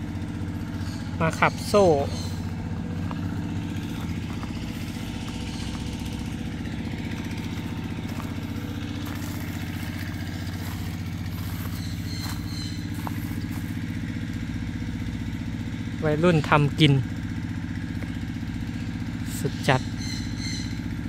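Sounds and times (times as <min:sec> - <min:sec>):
turbocharged engine idling: 0:00.0 - 0:21.0.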